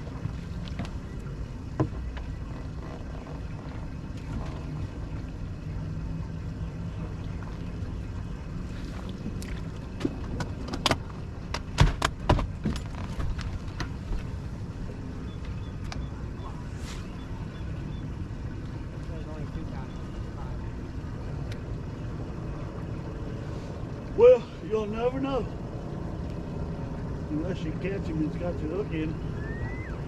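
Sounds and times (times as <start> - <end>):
wind and water rumble: 0.0 - 30.0.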